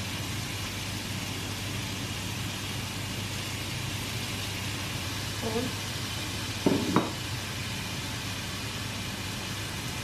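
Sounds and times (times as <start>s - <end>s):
food frying in a pan: 0.0s - 10.0s.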